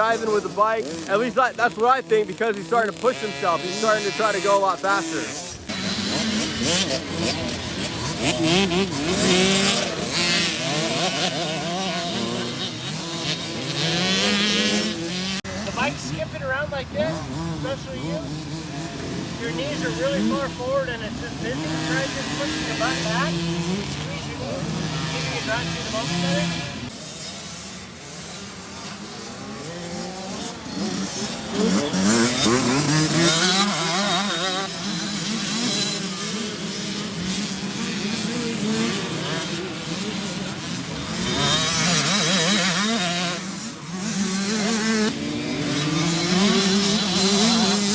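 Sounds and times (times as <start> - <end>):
motocross bike engines revving: 0.0 - 47.9.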